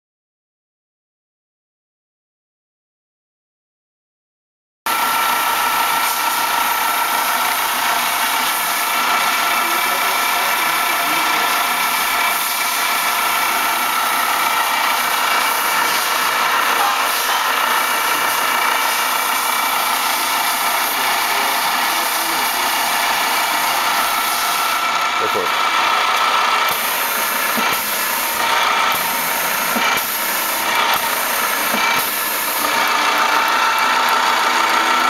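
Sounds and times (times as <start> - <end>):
riveting machine hum and whine: 4.9 - 35.0.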